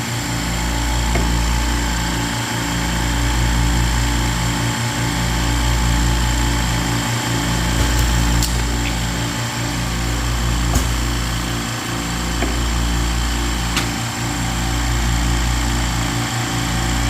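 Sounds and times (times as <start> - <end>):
machine humming with mechanical pulse: 0.0 - 17.0.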